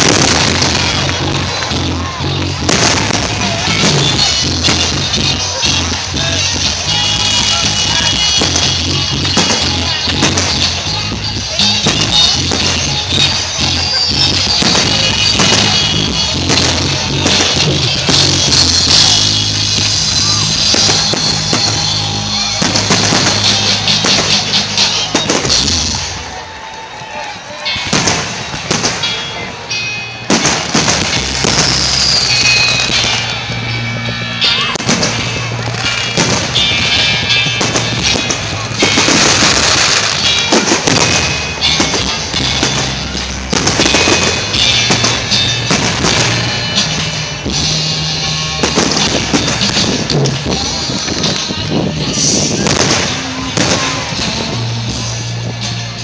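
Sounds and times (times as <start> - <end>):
loud rock music with drums: 0.0 - 26.4, 30.0 - 56.0
firework bangs and crackles: 0.0 - 56.0.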